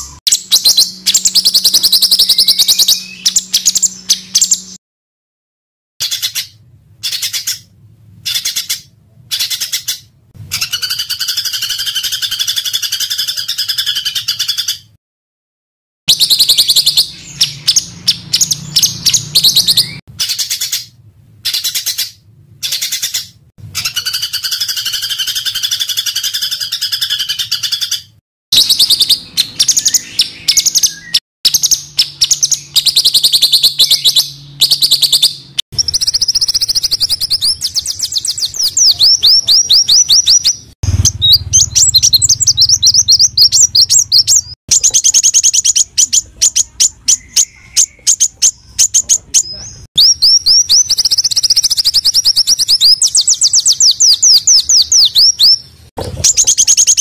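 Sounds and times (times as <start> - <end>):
songbirds harsh rapid calls: 0.0 - 4.8, 6.0 - 14.9, 16.1 - 57.0.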